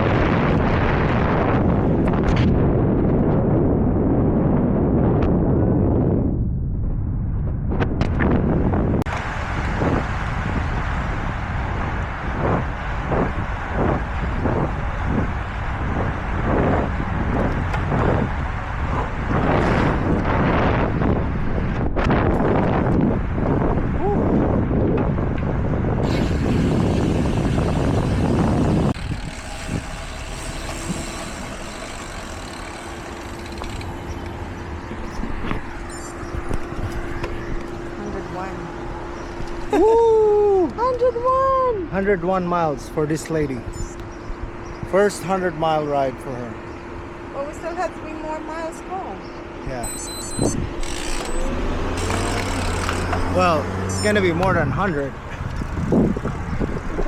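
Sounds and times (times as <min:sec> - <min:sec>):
low rumble of road noise: 0:00.0 - 0:57.0
wind rushing over microphone: 0:00.0 - 0:57.0.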